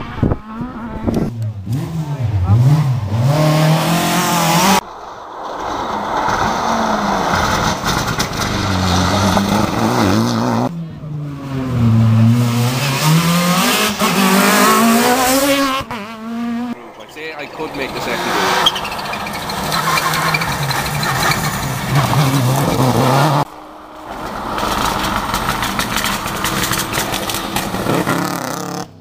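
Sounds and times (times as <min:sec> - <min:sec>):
rally car engines revving: 0:00.0 - 0:04.8, 0:05.6 - 0:29.0.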